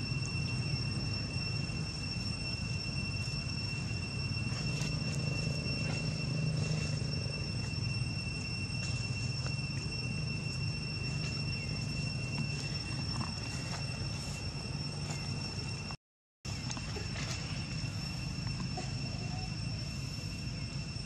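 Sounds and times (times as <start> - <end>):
high-pitched insect drone: 0.0 - 21.0
low rumble: 0.0 - 21.0.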